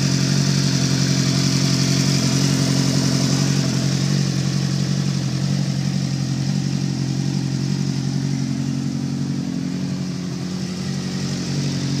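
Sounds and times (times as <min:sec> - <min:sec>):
motorcycle engine idling with knocking: 0:00.0 - 0:12.0.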